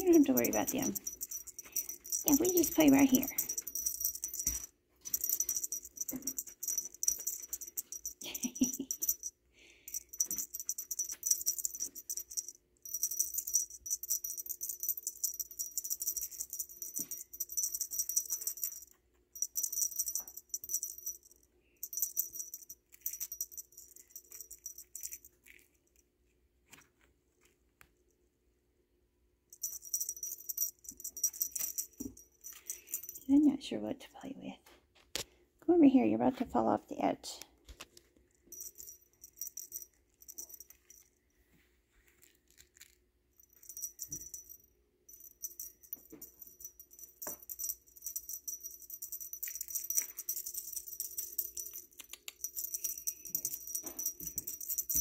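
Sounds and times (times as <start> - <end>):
small bell jingling: 0.0 - 26.0, 29.5 - 33.6, 38.3 - 41.4, 42.1 - 55.0.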